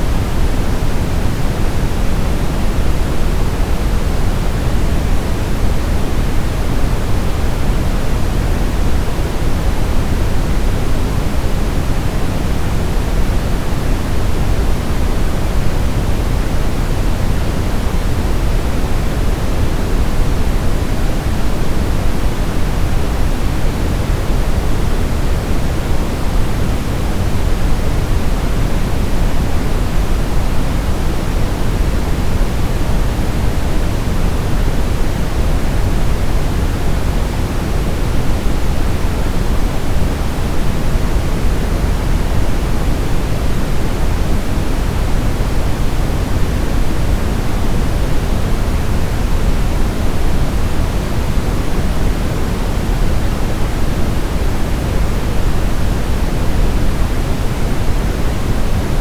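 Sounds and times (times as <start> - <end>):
low white noise hiss: 0.0 - 59.0.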